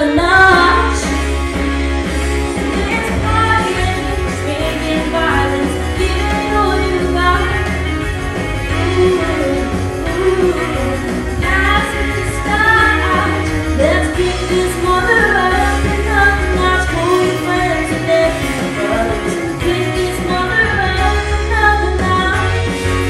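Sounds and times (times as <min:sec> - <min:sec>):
amplified backing music with bass: 0:00.0 - 0:23.0
woman singing into a microphone: 0:00.0 - 0:23.0.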